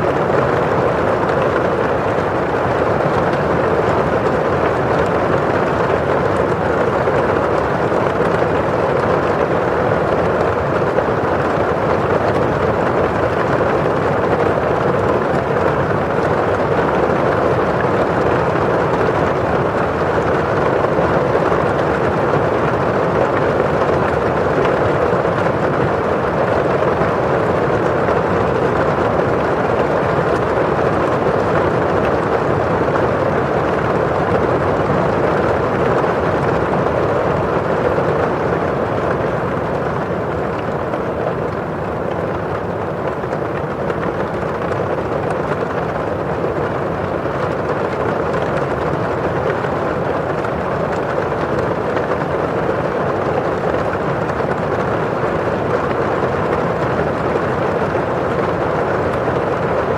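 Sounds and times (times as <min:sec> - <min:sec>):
rain on window pane: 0:00.1 - 0:59.9.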